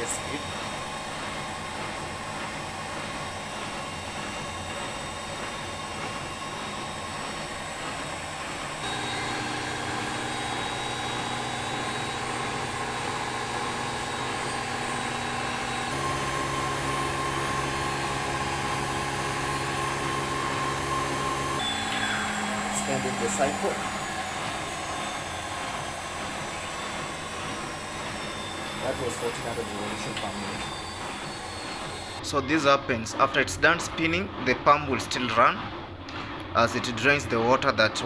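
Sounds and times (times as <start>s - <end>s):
washing machine spinning: 0.0s - 38.0s.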